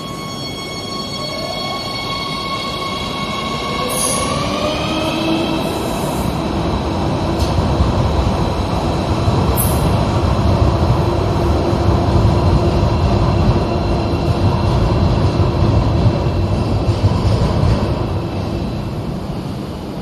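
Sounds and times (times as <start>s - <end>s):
train wheels rumbling on track: 2.8s - 20.0s.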